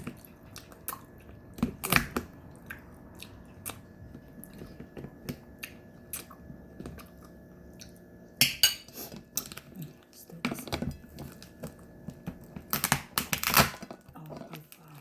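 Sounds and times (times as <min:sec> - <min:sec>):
person chewing with wet mouth sounds: 0:00.0 - 0:08.2, 0:08.8 - 0:12.8.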